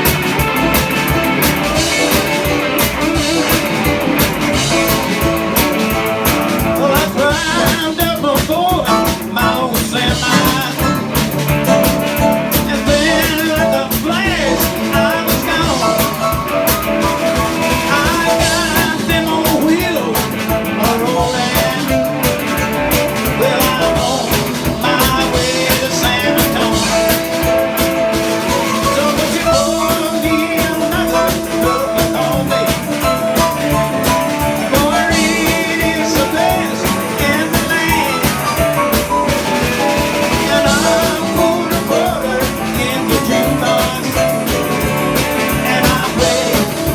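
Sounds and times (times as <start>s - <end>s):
electric guitar: 0.0s - 46.9s
live rock band playing: 0.0s - 46.9s
steady drum beat: 0.0s - 46.9s.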